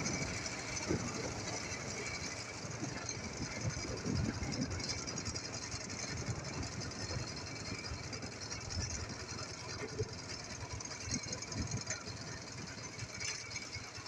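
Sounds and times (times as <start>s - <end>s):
motorcycle engine chugging: 0.0s - 14.0s.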